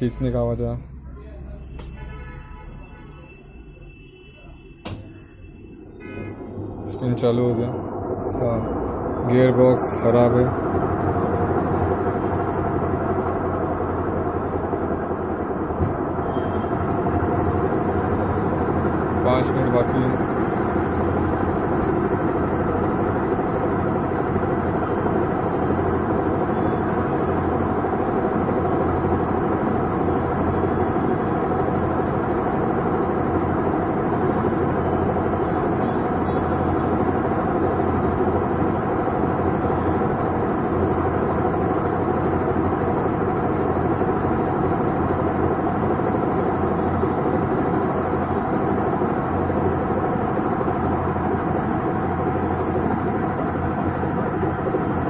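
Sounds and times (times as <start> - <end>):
washing machine spin cycle drone: 0.0 - 55.0.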